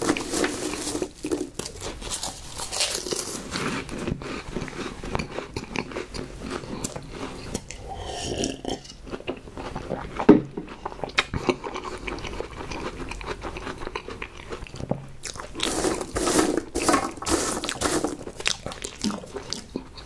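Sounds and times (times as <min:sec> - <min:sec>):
chewing and crunching snack food: 0:00.0 - 0:20.0.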